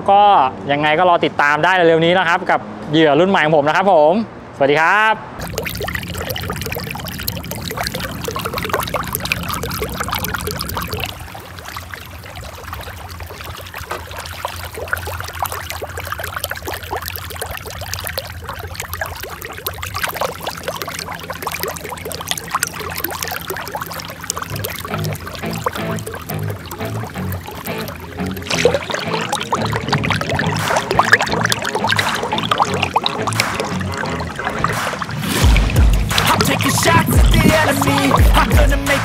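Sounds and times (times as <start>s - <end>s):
low hum: 5.4s - 39.0s
water pouring and splashing: 5.4s - 39.0s.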